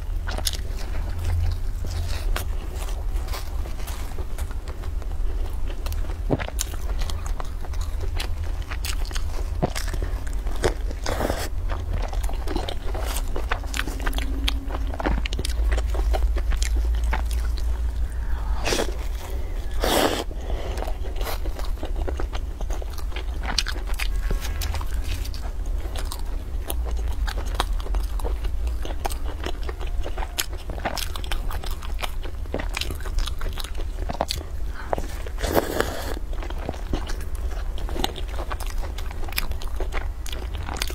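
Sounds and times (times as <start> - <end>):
crunchy chewing: 0.0 - 40.9
steady low hum: 0.0 - 40.9.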